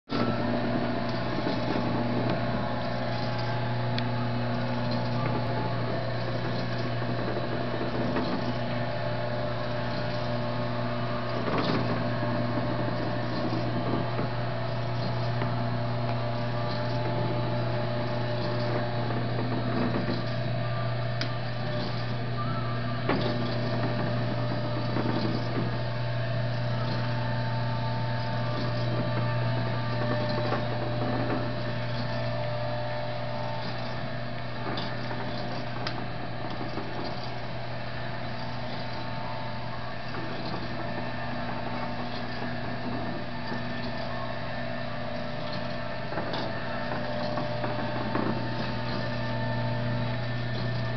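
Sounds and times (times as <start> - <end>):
electric drive humming: 0.0 - 50.9.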